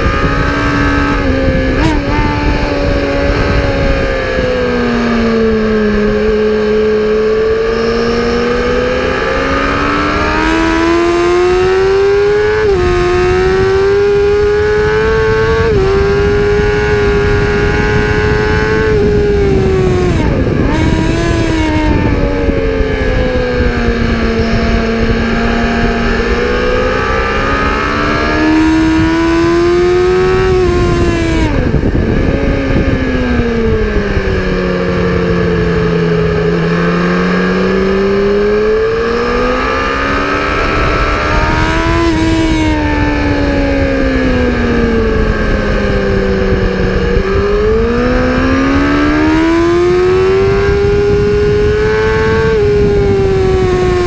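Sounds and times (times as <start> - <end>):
racing engine accelerating: 0.0 - 54.0.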